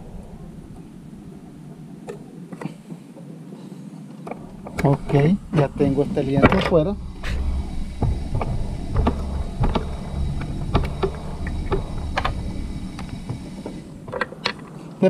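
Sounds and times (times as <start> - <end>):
steady low rumble: 0.0 - 2.5, 4.2 - 15.0.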